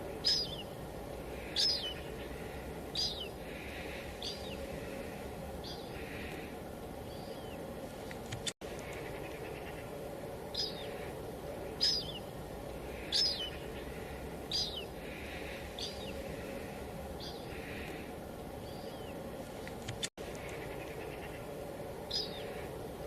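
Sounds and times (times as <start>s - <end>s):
bird chirping: 0.0s - 18.0s, 18.6s - 22.7s.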